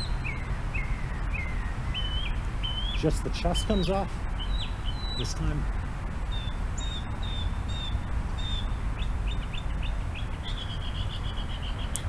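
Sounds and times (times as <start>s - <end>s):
songbird singing: 0.0s - 12.0s
steady low rumble: 0.0s - 12.0s.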